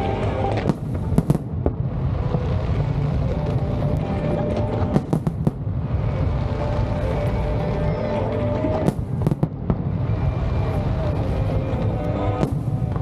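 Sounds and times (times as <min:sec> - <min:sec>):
fireworks bangs and crackles: 0:00.0 - 0:13.0
steady low rumble: 0:00.0 - 0:13.0.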